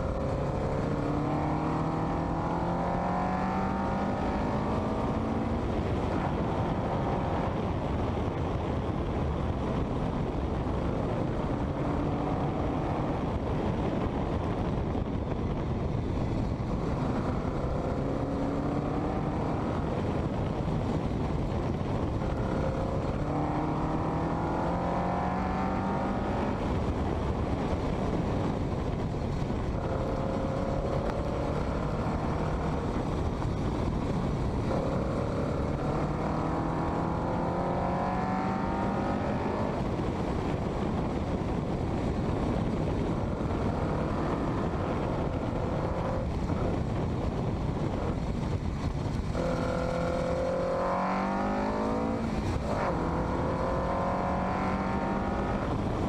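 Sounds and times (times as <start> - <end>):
car engine accelerating: 0.0 - 7.6, 16.4 - 21.0, 21.6 - 27.4, 29.0 - 56.0
wind and road noise: 0.0 - 56.0.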